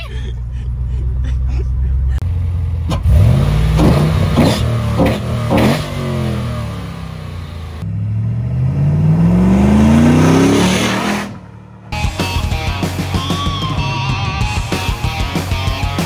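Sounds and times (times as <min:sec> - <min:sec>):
vehicle accelerating: 0:00.2 - 0:15.8
engine revving: 0:02.0 - 0:16.0.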